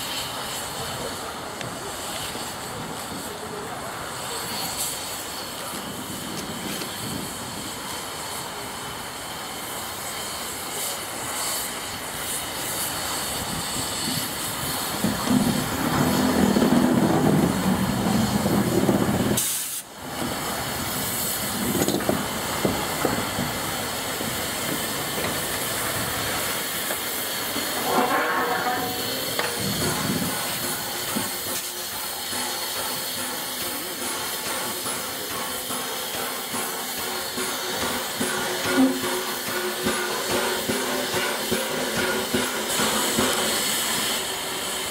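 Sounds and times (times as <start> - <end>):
steam hissing: 0.0 - 44.9
steam locomotive moving slowly: 0.0 - 44.9.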